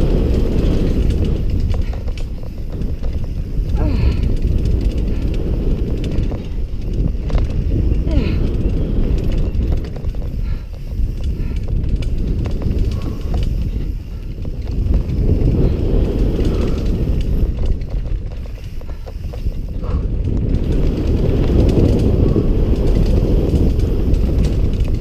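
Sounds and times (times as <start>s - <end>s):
bike rattling over bumps: 0.0s - 25.0s
wind noise on microphone: 0.0s - 25.0s.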